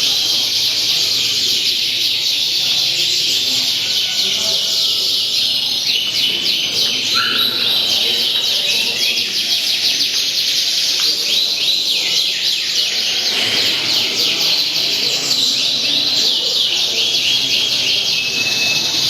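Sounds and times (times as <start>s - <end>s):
caged songbirds singing: 0.0s - 19.0s.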